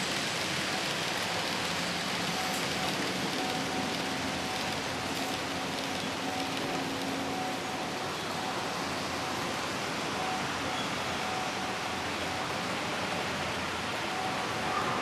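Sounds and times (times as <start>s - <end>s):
model trains running: 0.0s - 15.0s.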